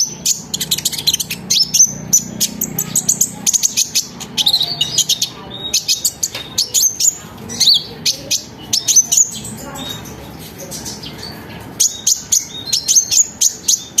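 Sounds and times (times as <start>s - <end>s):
bird chirping and trilling: 0.0s - 14.0s.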